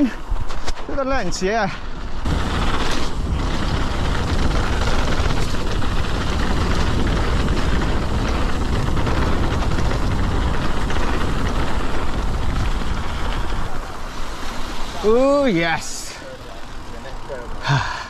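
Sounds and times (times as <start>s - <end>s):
wind rushing over microphone: 0.0s - 17.3s
bike tyre roar: 0.0s - 18.0s.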